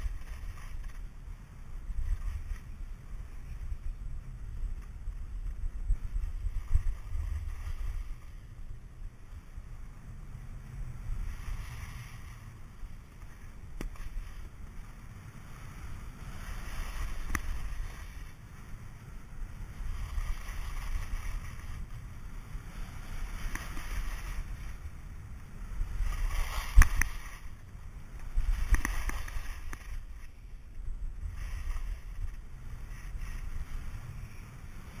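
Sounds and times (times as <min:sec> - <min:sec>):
skis scraping packed snow: 0:00.0 - 0:35.0
wind buffeting microphone: 0:00.0 - 0:35.0.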